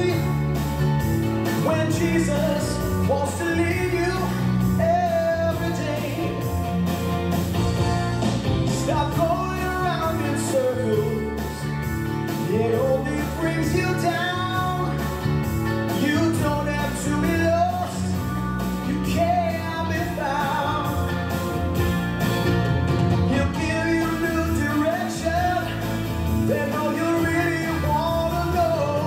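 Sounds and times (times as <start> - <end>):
song with band and drum beat: 0.0 - 29.0.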